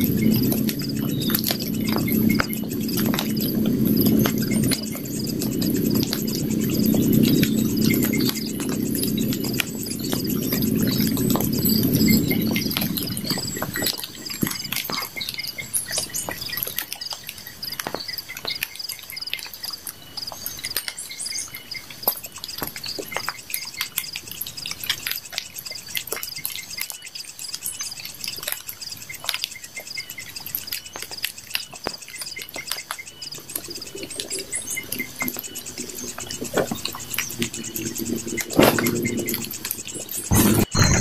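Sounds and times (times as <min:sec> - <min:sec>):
campfire crackling and popping: 0:00.0 - 0:40.7
birds chirping: 0:00.0 - 0:41.0
insects chirping: 0:00.0 - 0:41.0.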